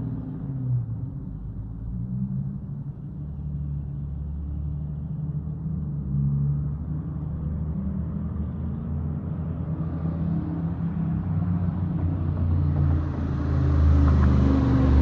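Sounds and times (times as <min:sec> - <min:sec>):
car exhaust deep rumble: 0:00.0 - 0:15.0.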